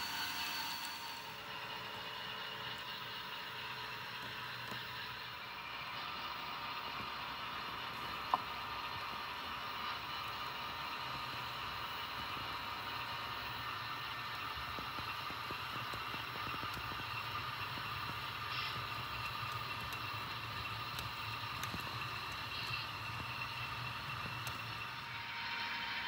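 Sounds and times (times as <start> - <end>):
model train motor whir: 0.0 - 26.0.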